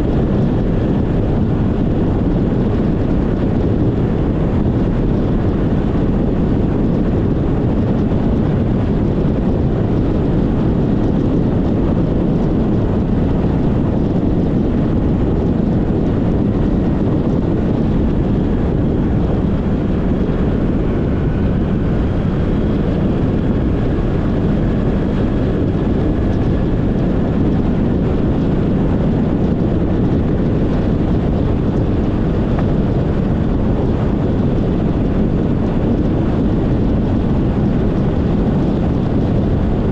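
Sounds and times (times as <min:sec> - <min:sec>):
vehicle road noise: 0:00.0 - 0:39.9
wind rushing over microphone: 0:00.0 - 0:39.9.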